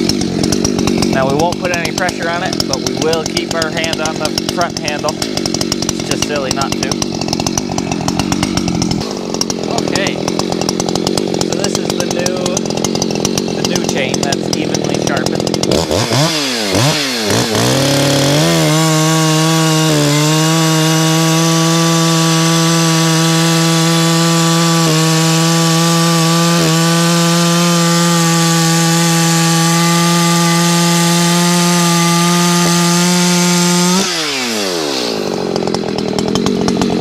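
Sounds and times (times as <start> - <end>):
chainsaw cutting log: 0.0 - 37.0.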